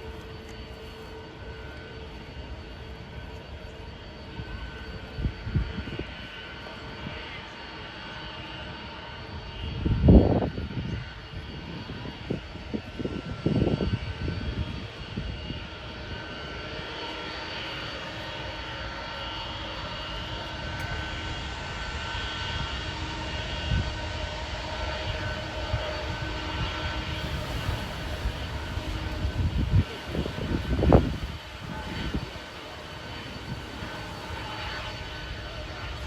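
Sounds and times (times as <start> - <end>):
jet engines whining: 0.0 - 36.0
wind buffeting microphone: 4.2 - 7.7, 8.4 - 36.0.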